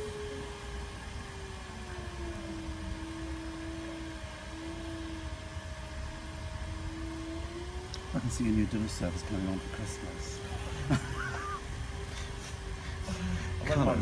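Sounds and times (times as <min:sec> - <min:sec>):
pottery wheel motor whirring: 0:00.0 - 0:14.0.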